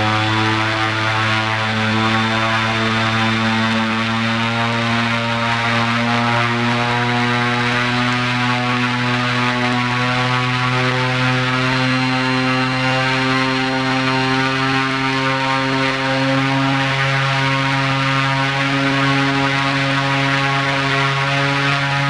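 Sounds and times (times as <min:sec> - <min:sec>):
propeller drone: 0:00.0 - 0:22.0.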